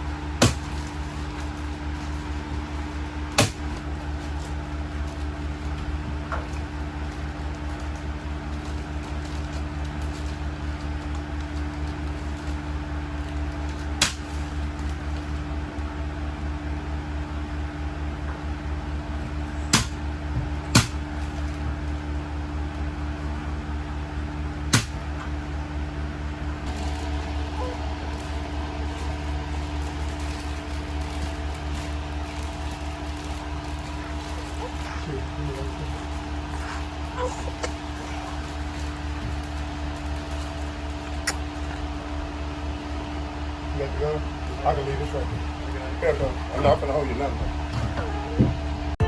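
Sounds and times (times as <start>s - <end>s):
machine hum with rapid pulse: 0.0s - 49.0s.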